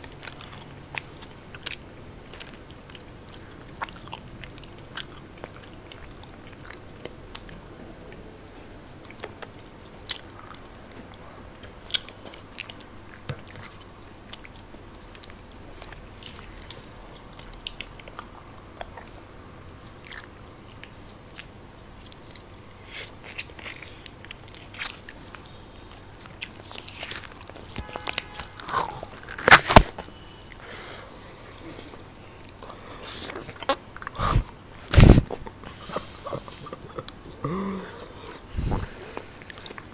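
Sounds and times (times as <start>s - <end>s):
crunching and chewing snacks: 0.0s - 30.8s, 31.4s - 39.9s.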